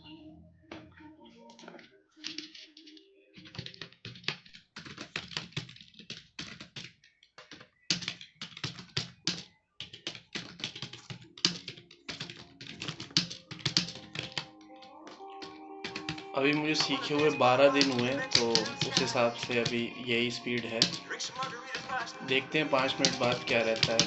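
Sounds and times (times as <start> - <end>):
fast typing on keyboard: 3.4 - 24.0.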